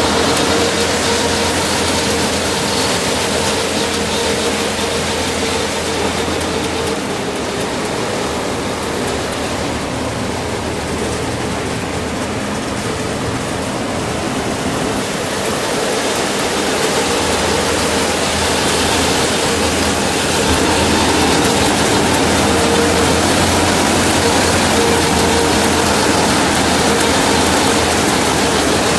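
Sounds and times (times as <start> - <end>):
harvester engine hum: 0.0 - 28.9
machinery clattering chopping stalks: 0.0 - 28.9.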